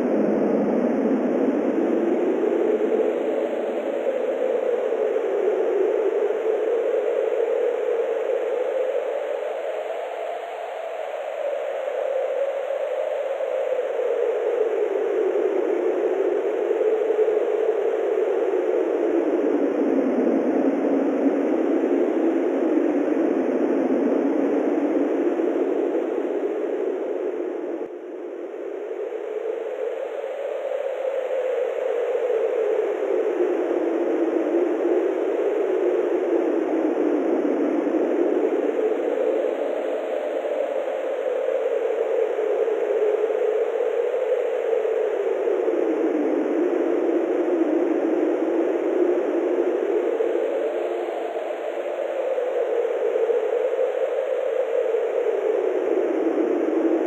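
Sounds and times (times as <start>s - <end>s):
steady wind: 0.0s - 57.0s.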